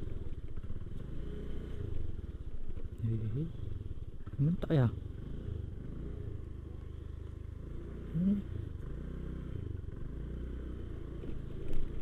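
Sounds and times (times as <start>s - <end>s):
motorcycle engine at low speed: 0.0s - 12.0s.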